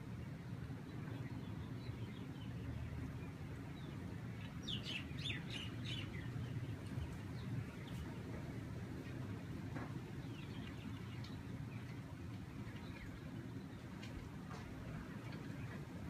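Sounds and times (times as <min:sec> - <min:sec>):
low rumble of wind: 0:00.0 - 0:16.0
birds chirping: 0:00.8 - 0:16.0.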